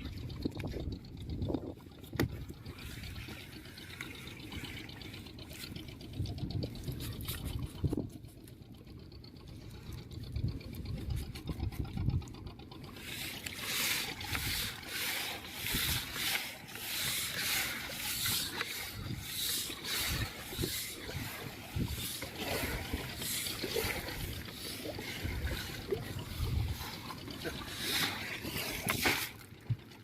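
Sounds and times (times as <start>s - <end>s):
low thumps and rumble: 0.0s - 30.0s
water splashing against a boat: 0.0s - 30.0s.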